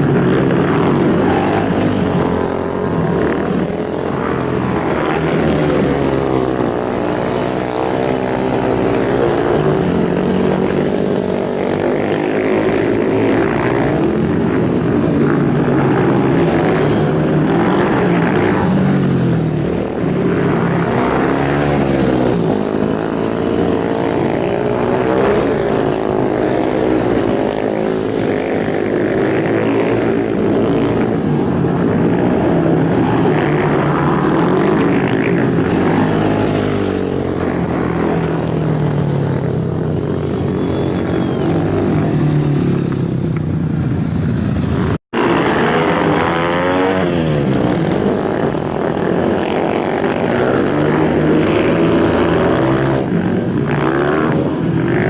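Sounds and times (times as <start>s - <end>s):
racing motorcycle engines revving: 0.0s - 55.0s.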